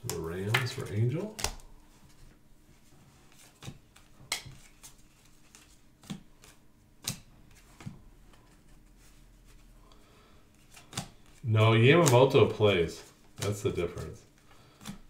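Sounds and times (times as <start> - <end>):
trading cards clicking and slapping: 0.0 - 2.2, 3.3 - 9.6, 10.5 - 15.0.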